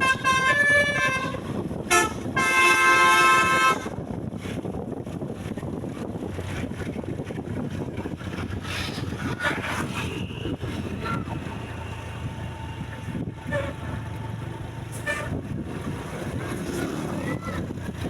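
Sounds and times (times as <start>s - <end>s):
road traffic rumble: 0.0s - 18.0s
wind on microphone: 0.0s - 18.0s.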